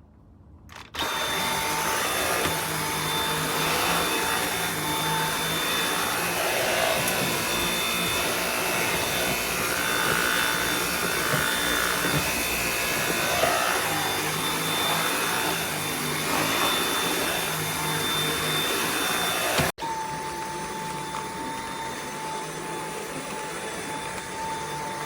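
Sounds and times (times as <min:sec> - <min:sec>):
vacuum cleaner running: 0:01.0 - 0:25.0.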